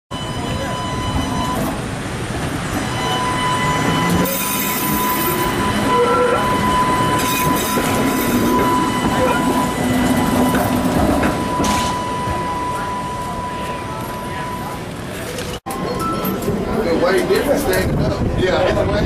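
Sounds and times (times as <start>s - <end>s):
rail vehicle rumbling on track: 0.1s - 19.0s
wheels squealing: 0.2s - 17.6s.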